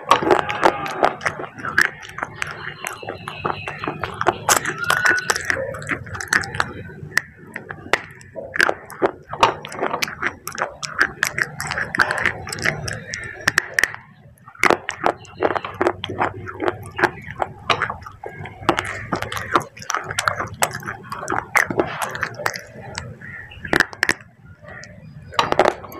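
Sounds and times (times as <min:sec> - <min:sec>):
crunching and chewing clay: 0:00.0 - 0:25.9.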